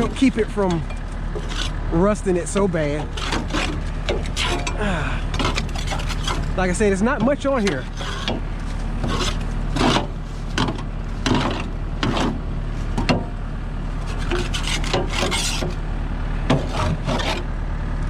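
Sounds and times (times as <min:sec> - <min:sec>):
hoe scraping grass clippings: 0:00.0 - 0:13.1, 0:13.9 - 0:15.8, 0:16.4 - 0:17.5
steady low hum: 0:00.0 - 0:18.0.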